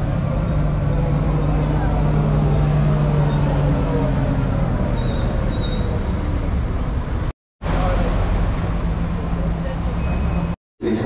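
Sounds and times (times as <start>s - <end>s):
motor vehicle whine: 0.0s - 10.6s.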